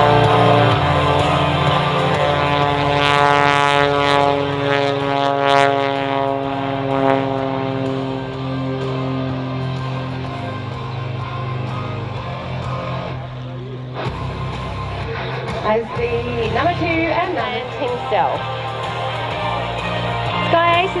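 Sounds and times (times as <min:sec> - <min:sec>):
propeller plane flying past: 0:00.0 - 0:21.0.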